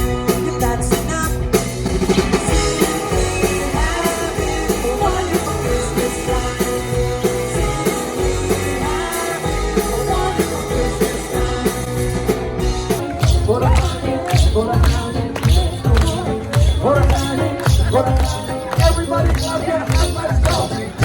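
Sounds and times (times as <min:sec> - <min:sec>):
drums: 0:00.0 - 0:21.0
guitar: 0:00.0 - 0:21.0
live rock band playing: 0:00.0 - 0:21.0
person singing: 0:00.0 - 0:21.0.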